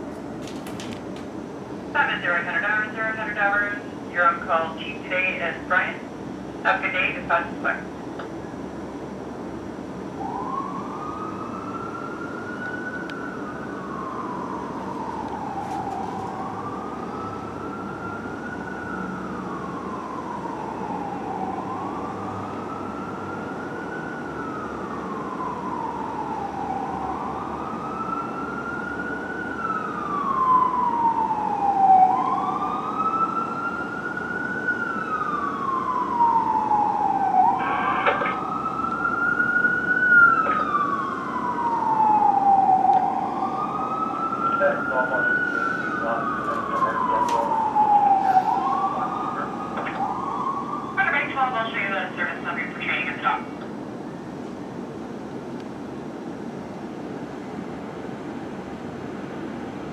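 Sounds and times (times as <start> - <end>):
city traffic noise: 0.0 - 59.9
fire truck siren wailing: 2.0 - 6.0, 8.8 - 59.9.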